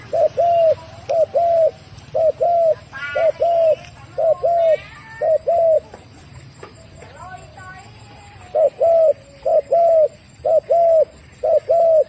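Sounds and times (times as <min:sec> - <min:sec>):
bird chirping: 0:00.0 - 0:12.0
turtle dove cooing: 0:00.0 - 0:12.0.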